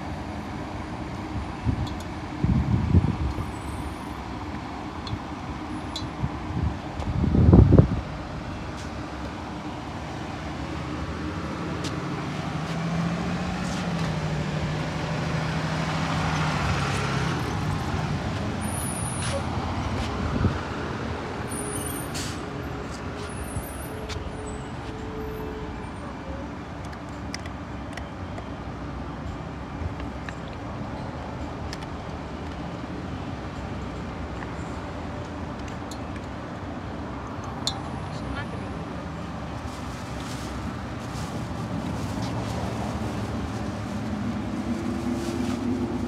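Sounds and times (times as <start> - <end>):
traffic noise: 0.0 - 46.0.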